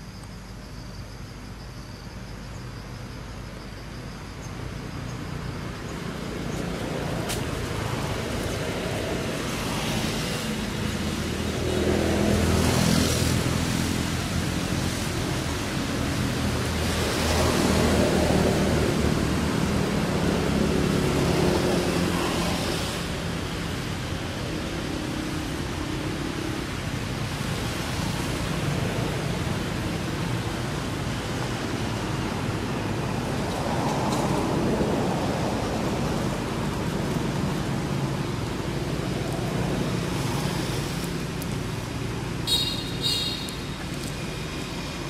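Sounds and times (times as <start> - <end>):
passing vehicles engine hum: 0.0 - 45.0.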